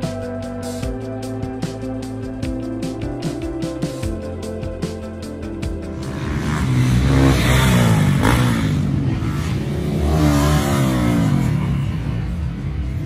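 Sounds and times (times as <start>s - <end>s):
dirt bike engines revving: 1.3s - 13.0s.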